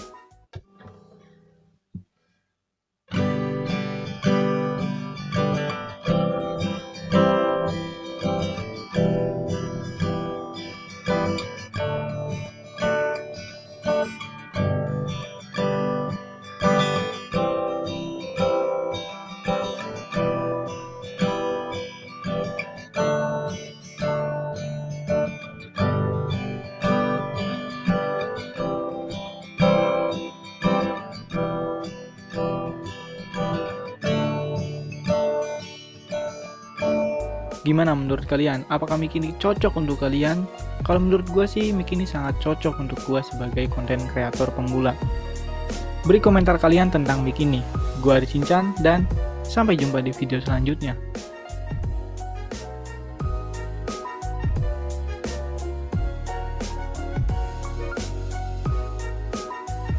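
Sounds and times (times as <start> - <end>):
acoustic guitar strumming: 0.0 - 1.6, 3.1 - 59.9.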